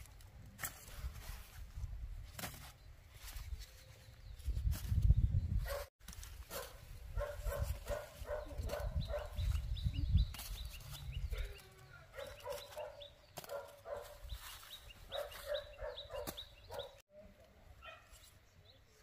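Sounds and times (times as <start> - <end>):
corn husks rustling: 0.0 - 5.1, 6.0 - 16.8.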